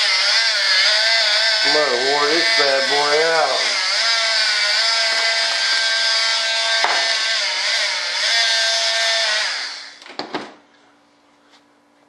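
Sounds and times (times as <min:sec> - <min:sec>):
electric cutting tool running: 0:00.0 - 0:10.0.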